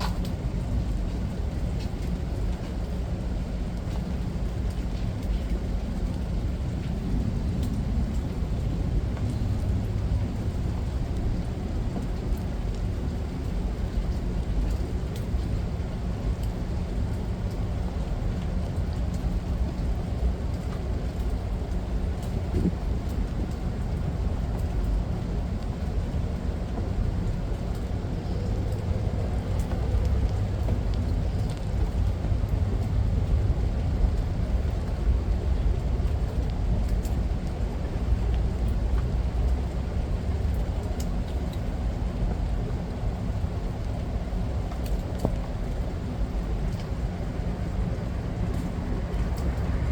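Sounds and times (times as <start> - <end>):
steady rain rushing: 0.0 - 49.9.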